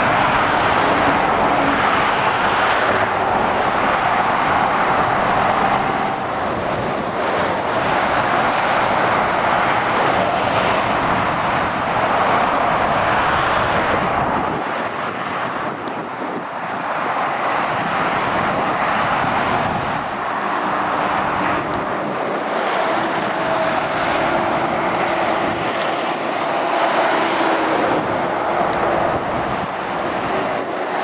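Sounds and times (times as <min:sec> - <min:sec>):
lorry diesel engines: 0:00.0 - 0:31.0
tyres on road: 0:00.0 - 0:31.0.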